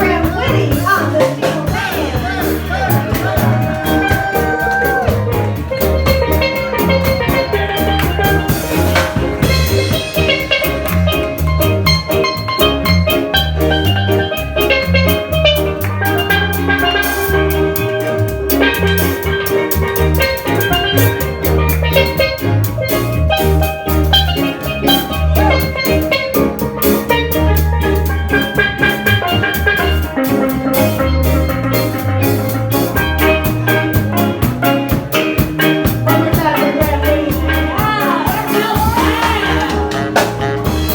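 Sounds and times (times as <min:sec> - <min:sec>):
bass line: 0:00.0 - 0:40.9
bright melodic instrument: 0:00.0 - 0:40.9
drum kit steady beat: 0:00.0 - 0:40.9.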